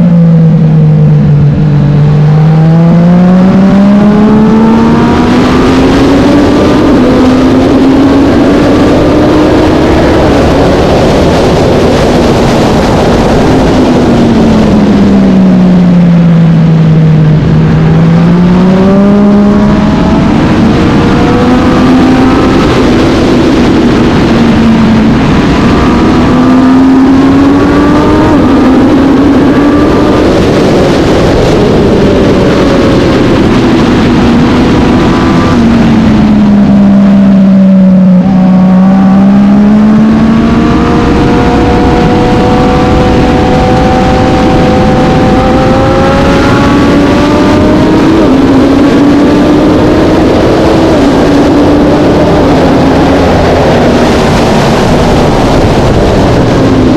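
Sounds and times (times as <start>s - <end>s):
racing motorcycle engine revving: 0.0s - 56.9s.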